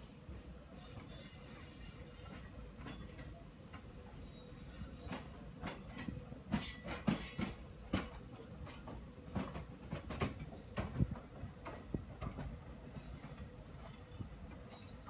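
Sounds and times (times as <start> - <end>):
train wheels clattering: 0.7 - 15.0.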